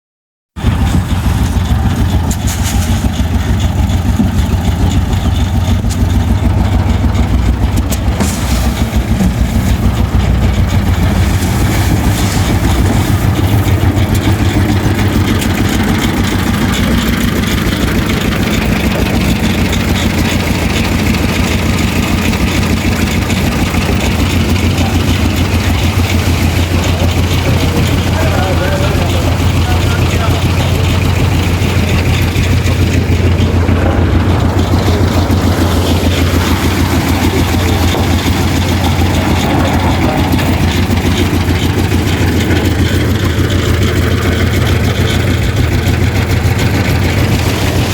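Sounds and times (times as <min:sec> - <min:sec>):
engine running steadily: 0:00.6 - 0:47.9.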